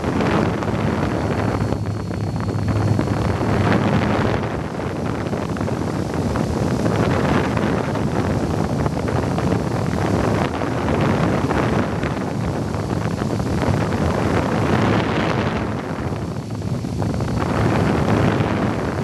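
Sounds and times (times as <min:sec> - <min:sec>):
model airplane motor running: 0:00.0 - 0:19.0
wind rushing over microphone: 0:00.0 - 0:19.0.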